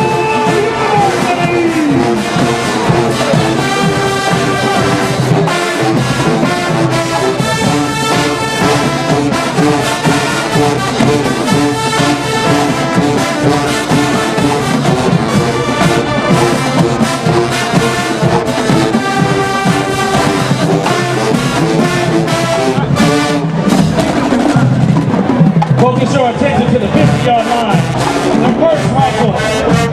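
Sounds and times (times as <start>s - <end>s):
brass section playing chords: 0.0s - 24.6s, 26.0s - 29.9s
steady drum beat: 0.0s - 29.9s.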